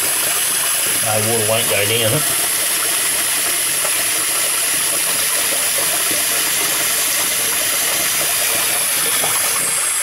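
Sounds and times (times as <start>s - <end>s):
tap water splashing into basin: 0.0s - 10.0s.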